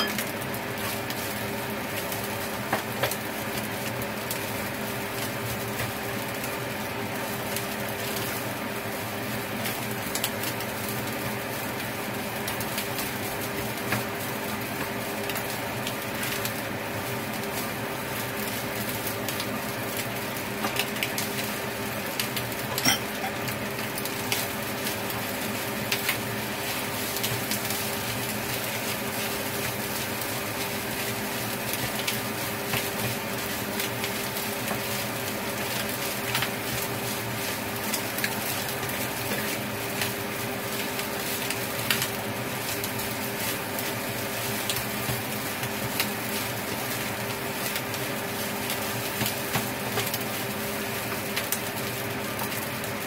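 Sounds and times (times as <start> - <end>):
rice sizzling in a pan: 0.0 - 53.0.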